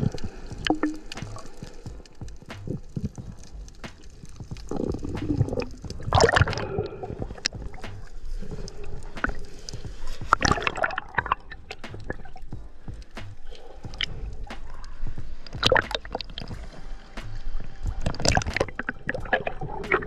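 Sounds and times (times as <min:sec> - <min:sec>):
water sloshing and gurgling: 0:00.0 - 0:20.0.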